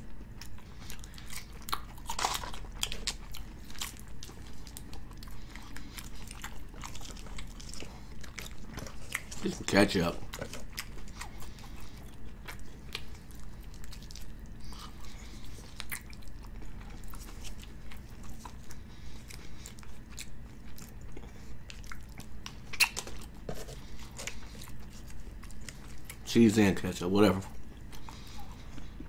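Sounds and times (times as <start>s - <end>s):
close chewing: 0.0s - 29.0s.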